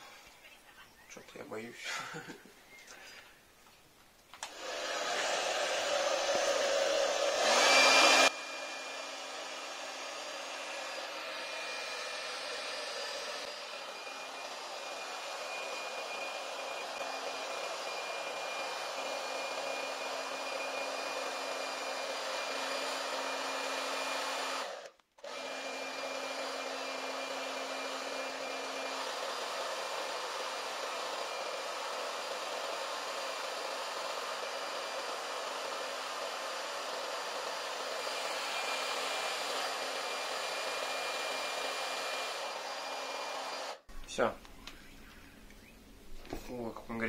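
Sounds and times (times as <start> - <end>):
hair dryer running: 4.4 - 43.9.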